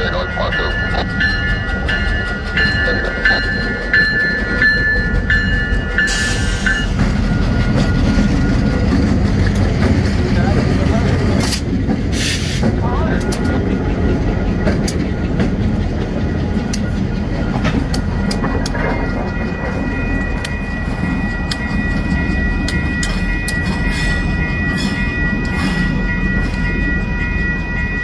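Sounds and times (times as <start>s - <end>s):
locomotives rumbling: 0.0s - 28.0s.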